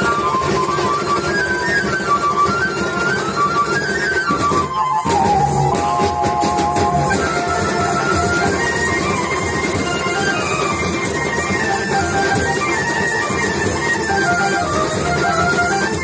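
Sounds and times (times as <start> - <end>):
folk melody: 0.0 - 16.0
steady drumming: 0.0 - 16.0.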